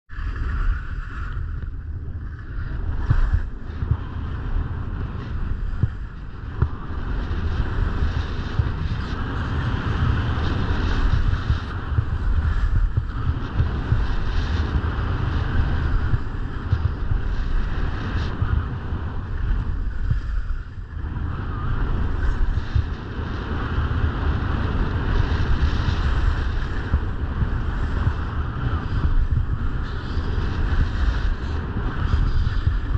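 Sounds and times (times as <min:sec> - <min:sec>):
wind buffeting microphone: 0:00.1 - 0:32.9
skis sliding on snow: 0:00.2 - 0:32.9.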